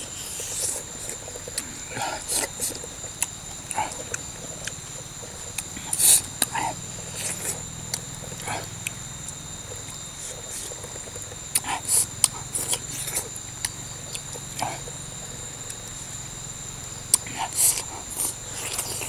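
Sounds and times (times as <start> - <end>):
man chewing and lip-smacking: 0.0 - 15.9, 17.1 - 19.0.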